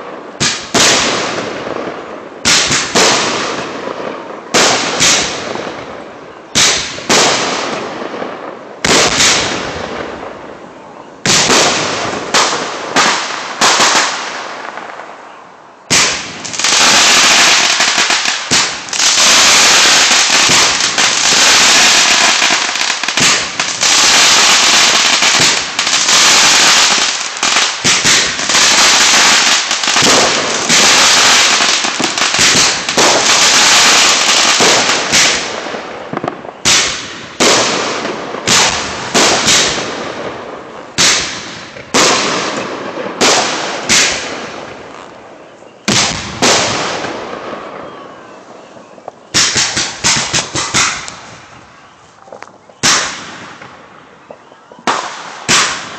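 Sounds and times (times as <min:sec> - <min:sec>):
fireworks bangs and pops: 0:00.0 - 0:10.4, 0:11.2 - 0:15.1, 0:15.9 - 0:45.2, 0:45.8 - 0:48.0, 0:48.9 - 0:55.9.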